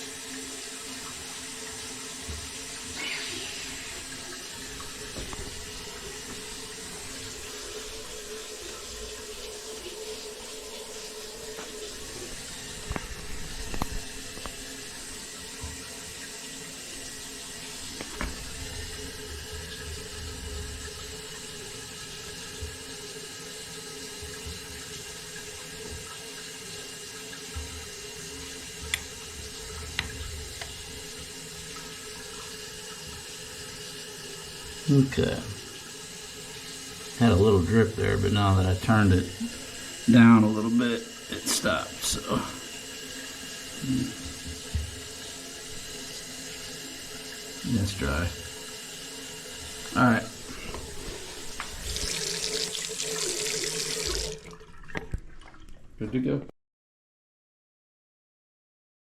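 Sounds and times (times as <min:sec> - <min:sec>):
faucet running into sink: 0:00.0 - 0:56.0.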